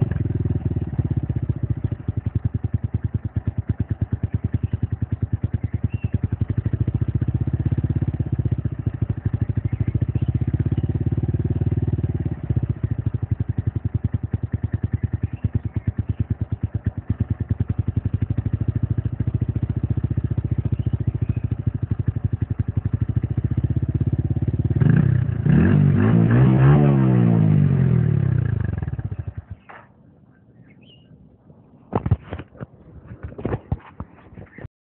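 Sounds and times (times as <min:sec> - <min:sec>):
motorcycle throttle rev: 0:00.0 - 0:29.9
motorcycle exhaust idling: 0:00.0 - 0:31.0.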